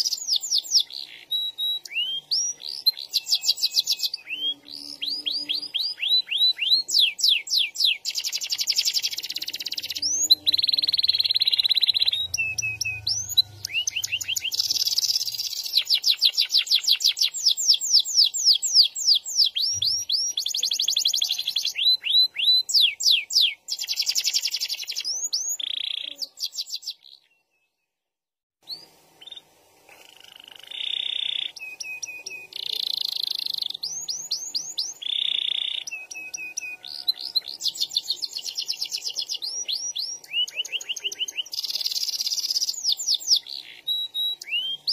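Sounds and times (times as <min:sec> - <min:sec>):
canary singing trills: 0:00.0 - 0:27.8, 0:28.6 - 0:44.9.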